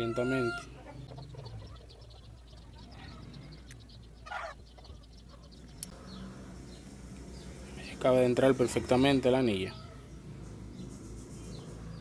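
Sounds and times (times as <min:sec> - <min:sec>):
low steady hum: 0:00.6 - 0:12.0.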